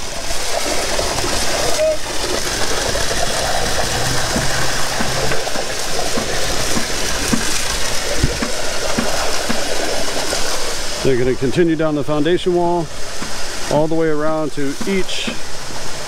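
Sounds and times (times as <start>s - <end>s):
concrete pump truck running: 0.0s - 10.2s, 11.0s - 15.5s.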